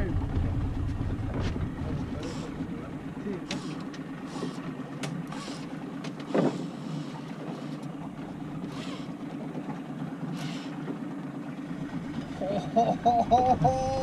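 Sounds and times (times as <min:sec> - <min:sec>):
boat motor running: 0:00.0 - 0:14.0.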